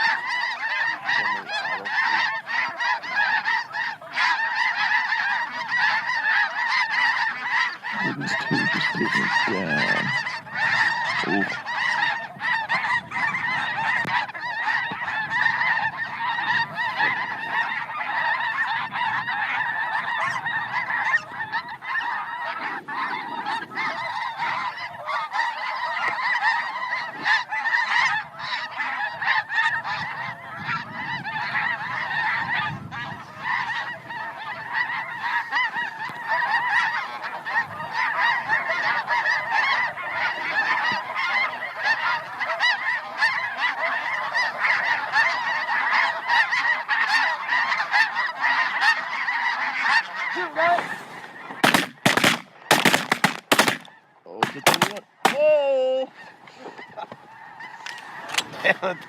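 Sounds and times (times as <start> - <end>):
flock of geese honking: 0.0 - 59.0.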